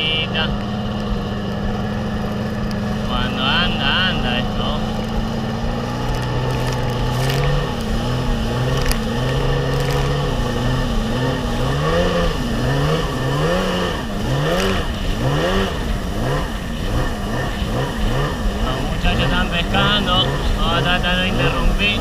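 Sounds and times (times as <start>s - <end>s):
jet ski engine revving: 0.0s - 22.0s.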